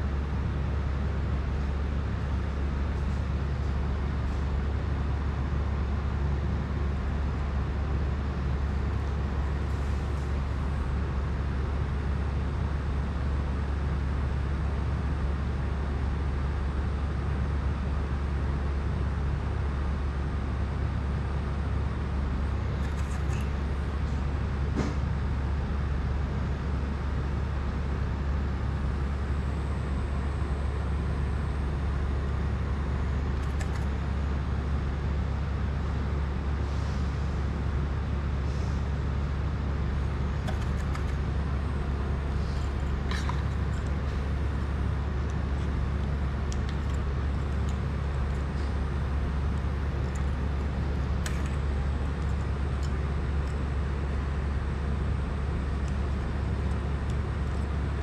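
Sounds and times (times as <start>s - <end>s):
low hum with hiss: 0.0s - 58.0s.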